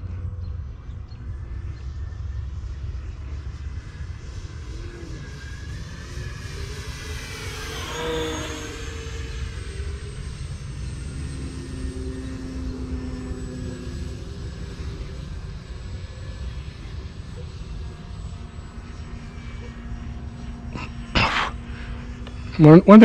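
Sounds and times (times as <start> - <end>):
model airplane motor whining: 0.2 - 23.0.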